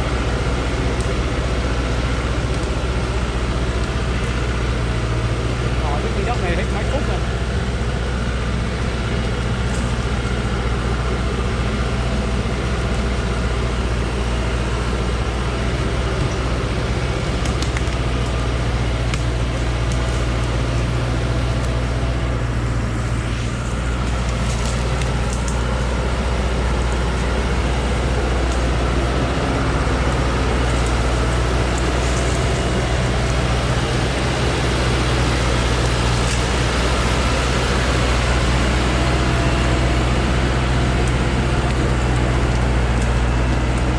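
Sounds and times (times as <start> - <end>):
truck engine droning: 0.0 - 43.9.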